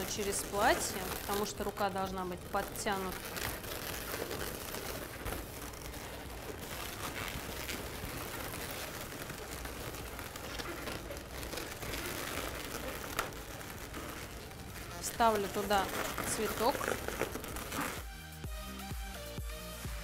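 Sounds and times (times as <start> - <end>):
balloons rubbing and rustling: 0.0 - 18.4.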